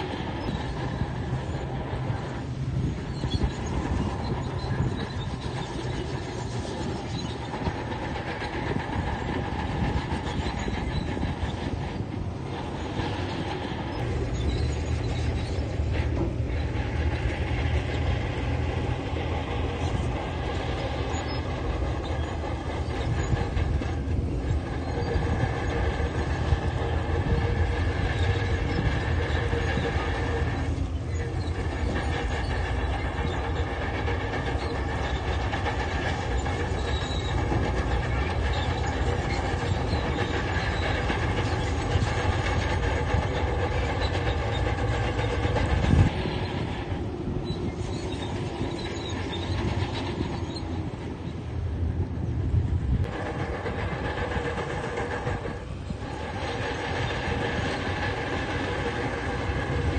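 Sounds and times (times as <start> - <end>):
mechanical clatter: 0.0 - 51.2, 52.8 - 59.9
bulldozer diesel engine running: 0.0 - 59.9.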